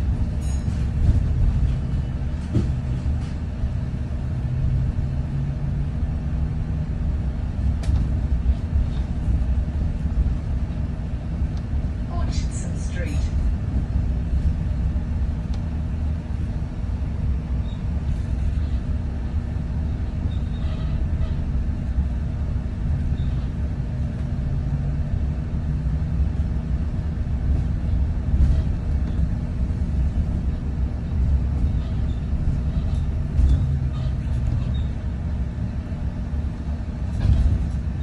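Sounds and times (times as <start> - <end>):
bus engine rumble: 0.0 - 38.0
road noise: 0.0 - 38.0.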